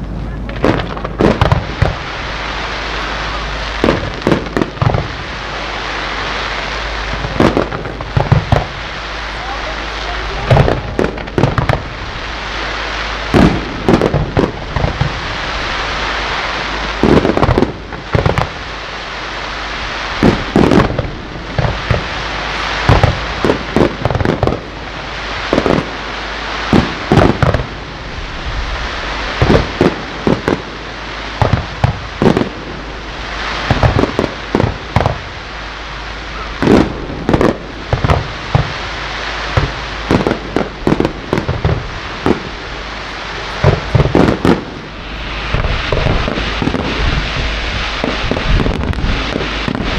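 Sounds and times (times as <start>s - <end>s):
continuous rushing noise: 0.0s - 49.9s
firework shells bursting: 0.0s - 49.9s.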